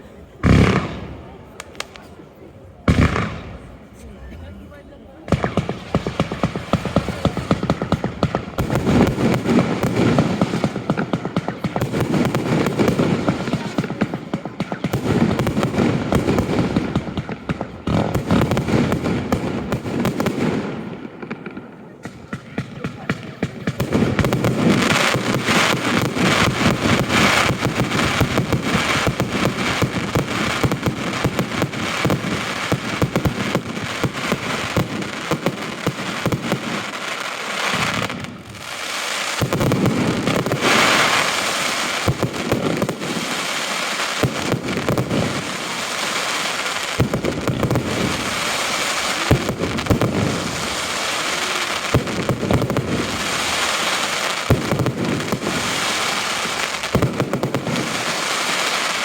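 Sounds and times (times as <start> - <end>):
firework bangs: 0.0 - 59.0
fireworks crackling and popping: 0.0 - 59.0.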